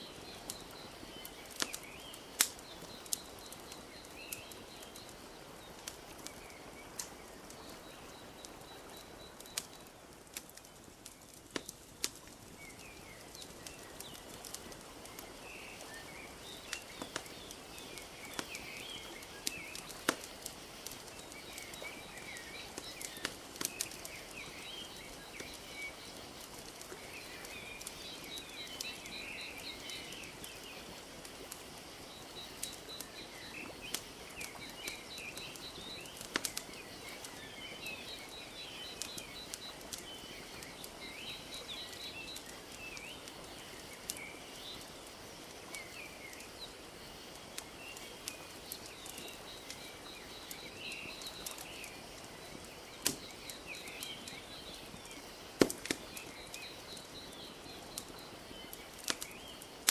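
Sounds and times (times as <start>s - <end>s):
small birds chirping: 0.0s - 59.9s
wood fire crackling and popping: 0.0s - 59.9s.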